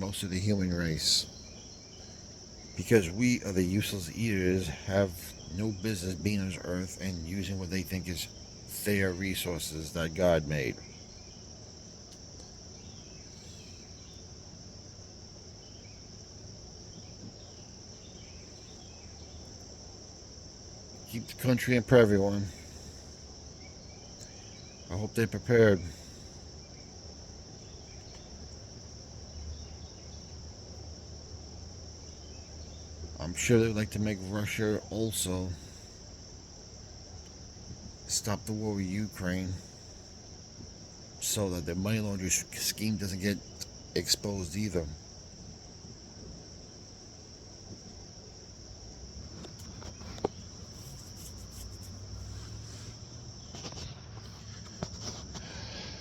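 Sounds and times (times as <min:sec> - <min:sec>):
crickets trilling: 0:00.0 - 0:56.0
faint low hum: 0:00.0 - 0:56.0.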